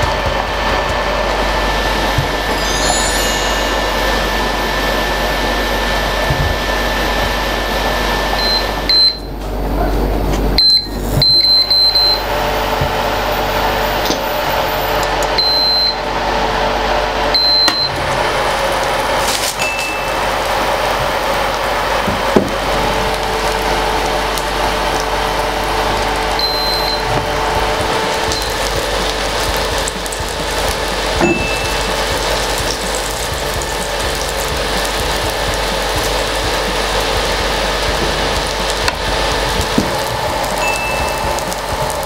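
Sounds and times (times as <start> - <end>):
induction hob hiss and hum: 0.0 - 42.0.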